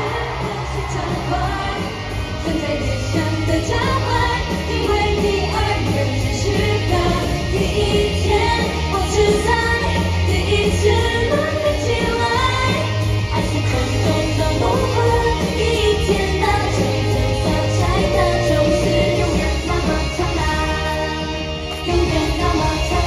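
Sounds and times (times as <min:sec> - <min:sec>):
group singing live: 0:00.0 - 0:23.0
pop backing track with heavy bass: 0:00.0 - 0:23.0.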